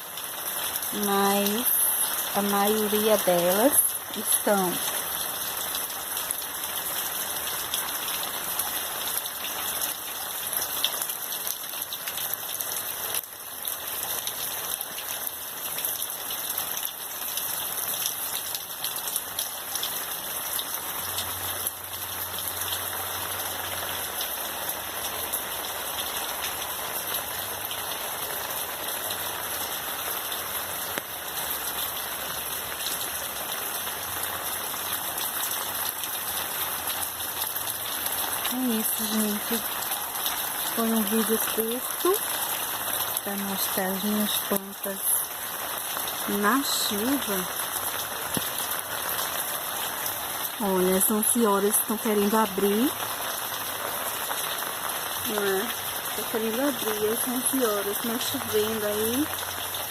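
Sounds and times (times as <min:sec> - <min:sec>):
rain falling on plants: 0:00.0 - 0:59.9.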